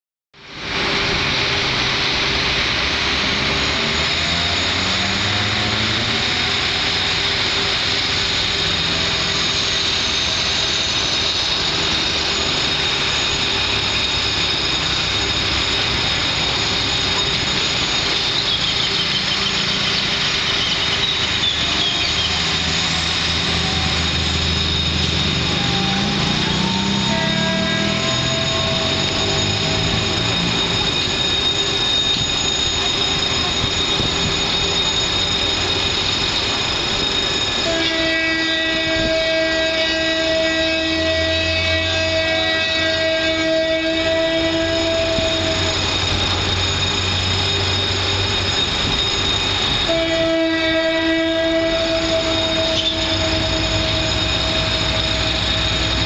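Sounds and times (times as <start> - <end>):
distant locomotive engine drone: 0.4 - 56.0.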